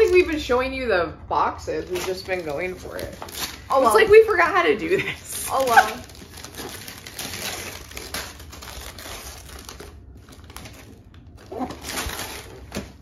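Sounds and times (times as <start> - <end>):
packaging crinkling and rustling: 1.8 - 13.0.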